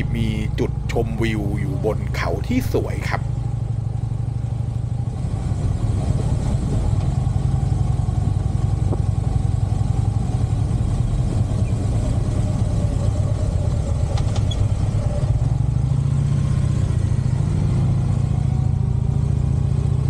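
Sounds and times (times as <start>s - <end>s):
motorcycle engine rumbling: 0.0s - 17.4s.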